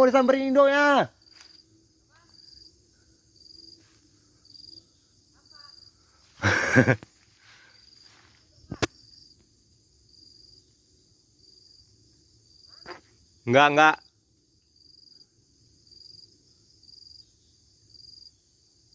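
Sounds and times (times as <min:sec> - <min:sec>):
insects chirping: 0:00.0 - 0:18.9.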